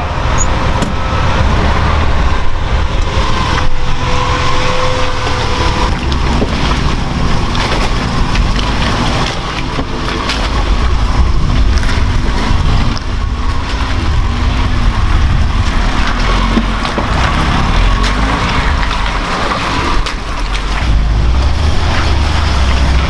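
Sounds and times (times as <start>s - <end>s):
clatter: 0.0s - 23.0s
truck engine running hard: 0.0s - 23.0s.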